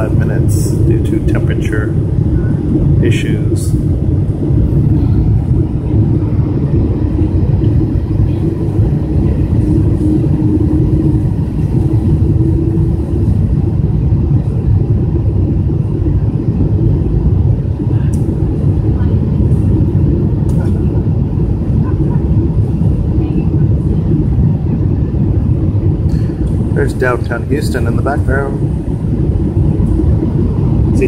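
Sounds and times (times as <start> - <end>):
aircraft cabin engine rumble: 0.0 - 31.0
steady drone: 0.0 - 31.0.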